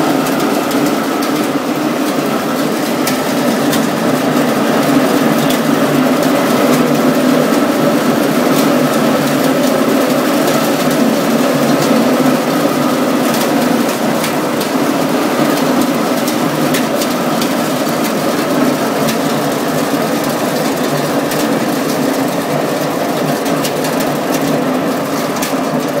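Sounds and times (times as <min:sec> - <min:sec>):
chickpeas pattering down metal chute: 0:00.0 - 0:26.0
machine running steadily: 0:00.0 - 0:26.0.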